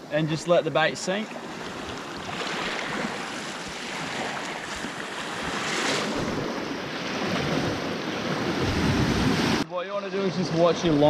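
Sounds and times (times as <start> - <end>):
small waves breaking on shore: 0.1 - 9.7.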